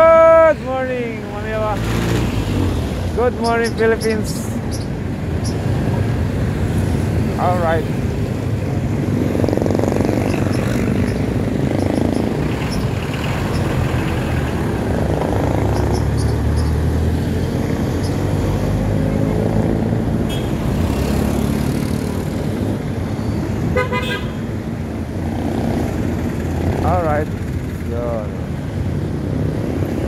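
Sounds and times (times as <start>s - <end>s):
road noise: 0.0s - 30.0s.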